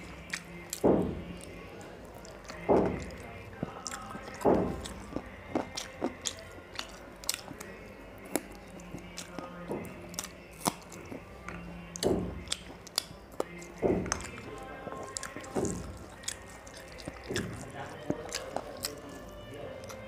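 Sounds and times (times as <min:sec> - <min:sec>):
fingers squishing rice: 0:00.0 - 0:20.0
wet chewing: 0:00.0 - 0:20.0
mouth clicks and smacks: 0:02.2 - 0:19.0.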